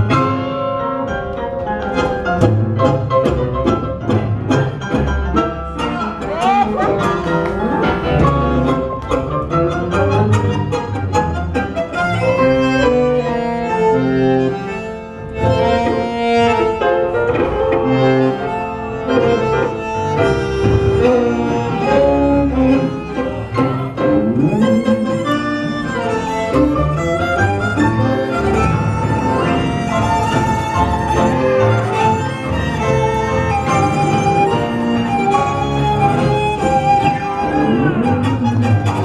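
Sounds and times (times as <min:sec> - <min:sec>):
tango quintet playing: 0:00.0 - 0:39.0
violin: 0:00.0 - 0:39.0.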